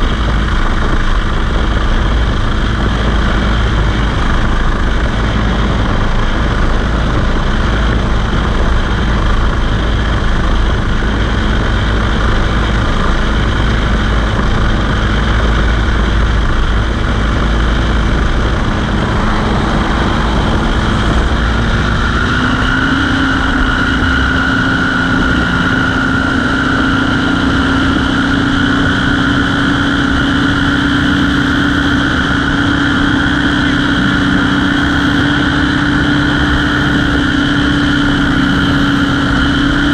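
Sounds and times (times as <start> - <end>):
small aircraft engine running: 0.0 - 39.9
wind noise: 0.0 - 39.9.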